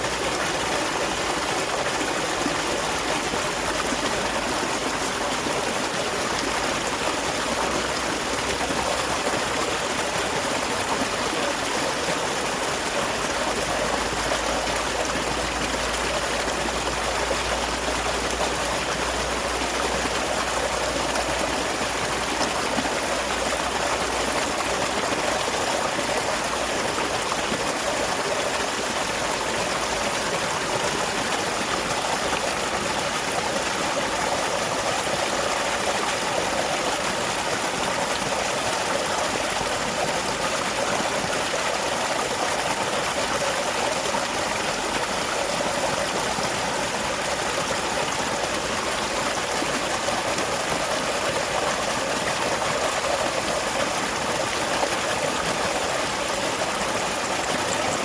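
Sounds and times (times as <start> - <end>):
water falling over rocks: 0.0 - 58.0.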